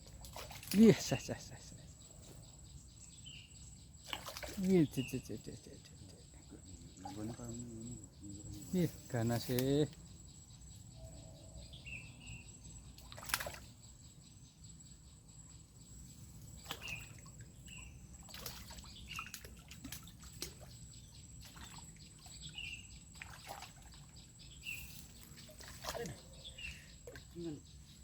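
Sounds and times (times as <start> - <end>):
bird chirps: 0.1 - 28.0
high insect whine: 0.5 - 28.0.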